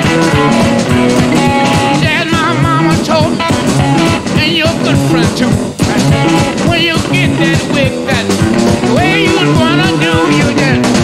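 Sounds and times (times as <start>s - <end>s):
drums steady beat: 0.0s - 11.0s
electric blues band playing: 0.0s - 11.0s
wavering high guitar lead: 0.0s - 11.0s.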